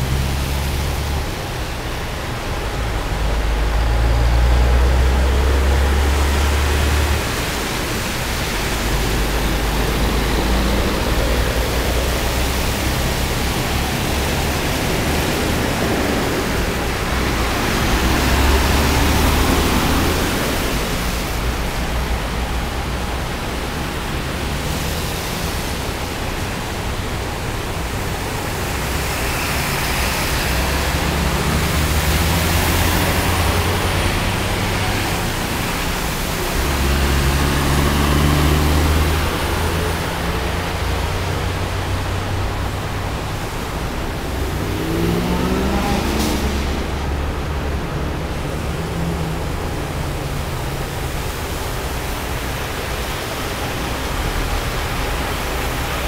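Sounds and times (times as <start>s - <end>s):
traffic driving through floodwater: 0.0s - 56.0s.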